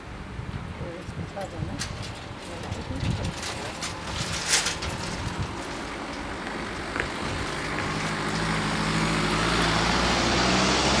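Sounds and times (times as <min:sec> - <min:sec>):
car engine hum and tyre noise: 0:00.0 - 0:11.0.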